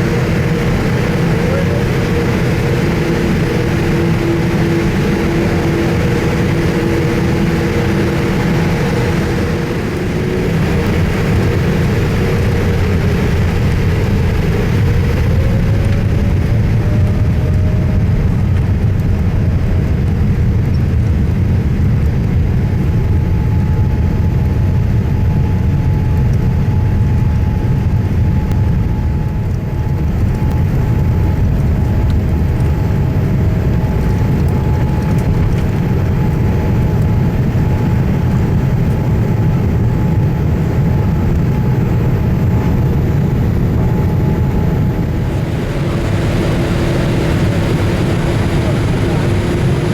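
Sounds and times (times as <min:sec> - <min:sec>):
jet engine cabin rumble: 0:00.0 - 0:49.9
whining engine tone: 0:00.0 - 0:49.9.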